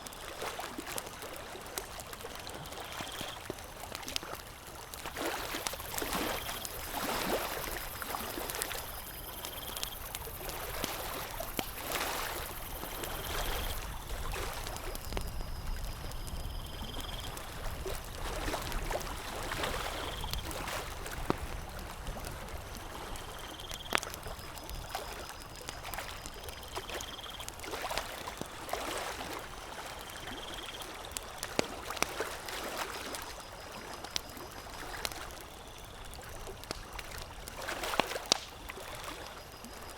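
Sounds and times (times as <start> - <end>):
campfire crackling: 0.0 - 39.9
lake water lapping: 0.1 - 39.9.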